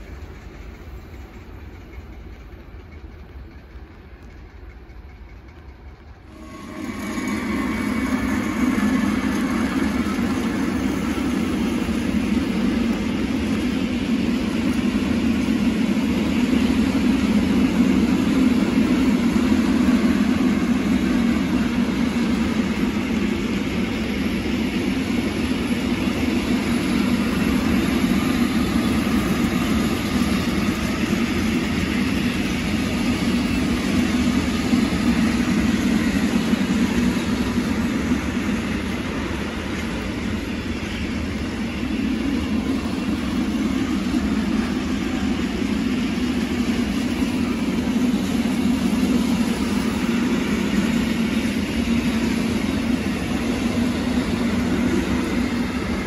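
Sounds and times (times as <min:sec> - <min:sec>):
freight train rolling on rails: 0:00.0 - 0:56.0.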